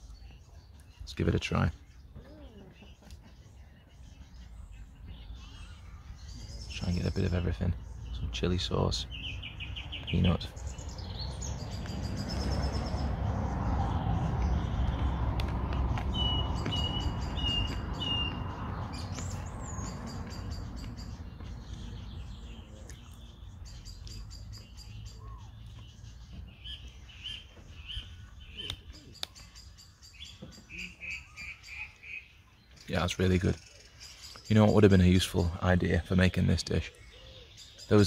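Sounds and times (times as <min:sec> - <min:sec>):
songbirds singing and calling: 0:00.0 - 0:38.0.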